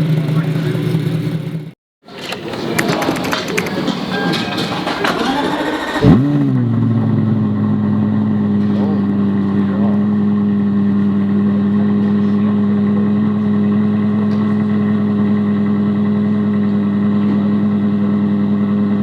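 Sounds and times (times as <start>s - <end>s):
car engine idling: 0.0s - 1.8s, 2.5s - 19.0s.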